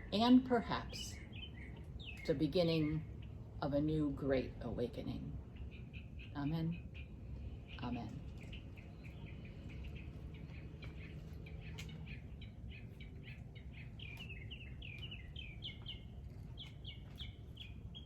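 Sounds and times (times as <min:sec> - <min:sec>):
small songbird chirping: 0:00.0 - 0:18.0.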